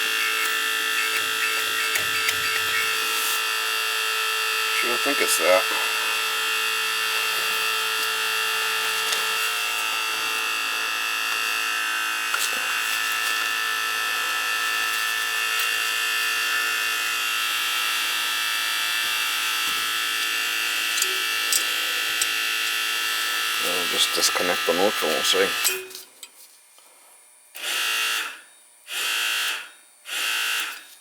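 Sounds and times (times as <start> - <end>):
circulator pump whine and buzz: 0.0 - 31.0.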